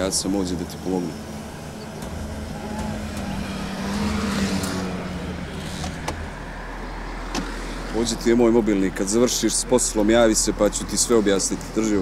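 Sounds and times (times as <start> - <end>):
car engine idling: 0.0 - 12.0
passing vehicle noise: 0.0 - 12.0.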